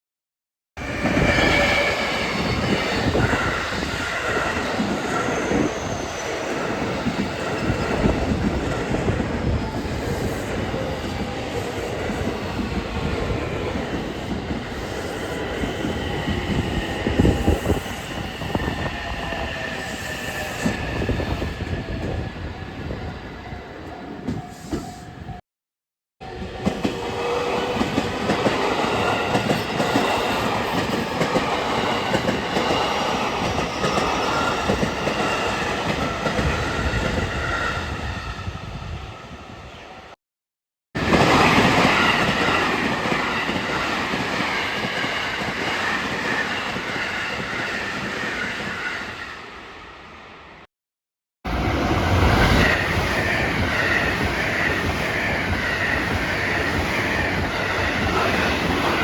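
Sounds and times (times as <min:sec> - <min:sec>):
train rumbling and clattering on rails: 0:00.8 - 0:25.4, 0:26.2 - 0:40.2, 0:41.0 - 0:50.2, 0:51.5 - 0:59.0.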